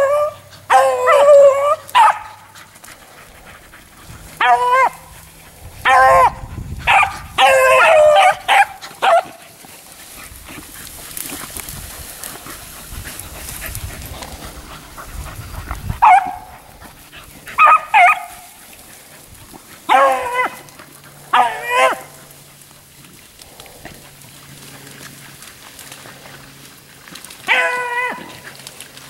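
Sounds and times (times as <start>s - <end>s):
hounds baying: 0.0s - 29.0s.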